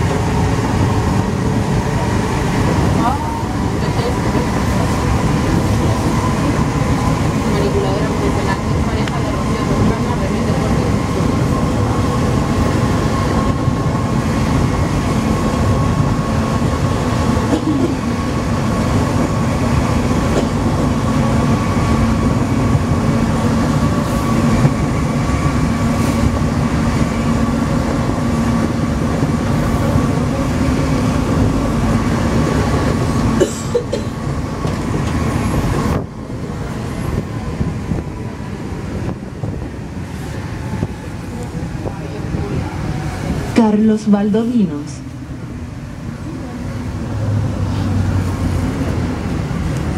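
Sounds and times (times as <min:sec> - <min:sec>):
train rumble: 0:00.0 - 0:49.9.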